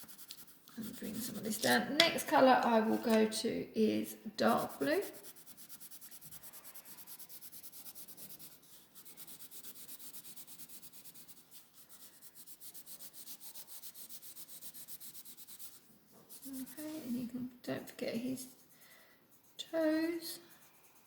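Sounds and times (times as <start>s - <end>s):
scribbling on card: 0.0s - 3.2s, 4.4s - 17.2s, 18.4s - 21.0s.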